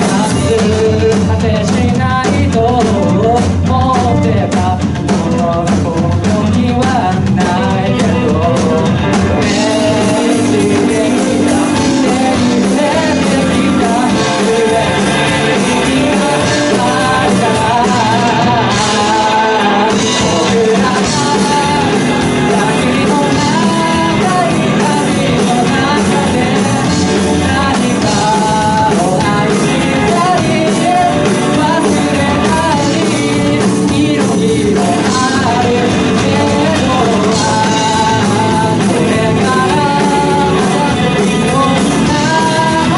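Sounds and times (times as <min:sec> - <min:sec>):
person singing with band: 0:00.0 - 0:42.9.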